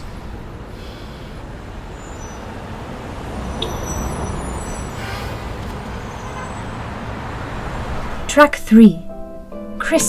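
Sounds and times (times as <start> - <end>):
faint high squeals: 0.0 - 8.3
road vehicles passing: 0.0 - 10.0.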